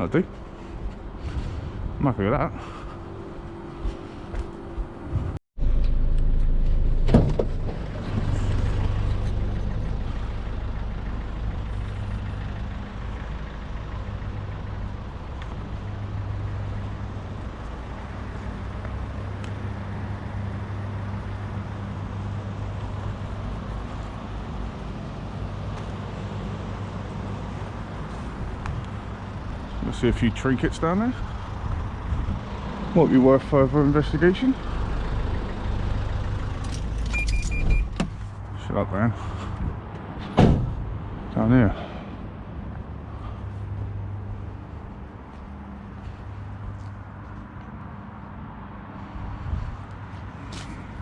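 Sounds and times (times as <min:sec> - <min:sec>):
vehicle engine running: 0:02.6 - 0:37.5, 0:40.8 - 0:48.1.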